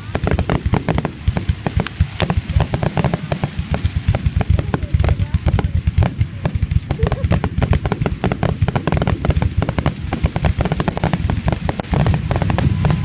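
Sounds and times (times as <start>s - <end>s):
deep rumble: 0.0s - 13.0s
fireworks booms and bangs: 0.0s - 13.0s.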